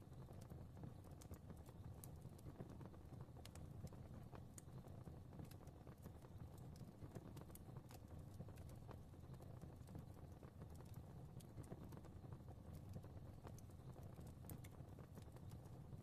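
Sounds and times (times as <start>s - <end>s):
fire crackling: 0.0s - 16.0s
low rumble of flames: 0.0s - 16.0s.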